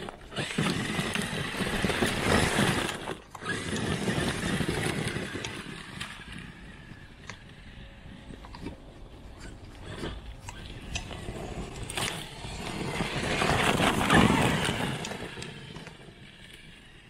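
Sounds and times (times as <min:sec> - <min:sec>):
rc truck driving through snow: 0:00.0 - 0:17.0
tires churning snow: 0:00.0 - 0:17.0.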